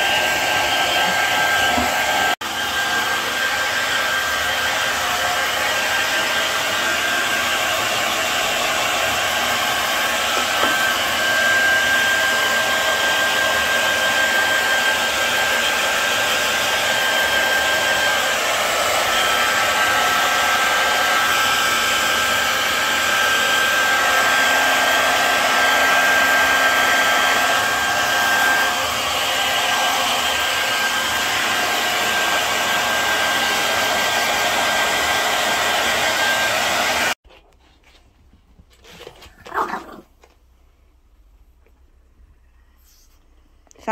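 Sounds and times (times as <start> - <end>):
hair dryer blowing: 0.0 - 37.2.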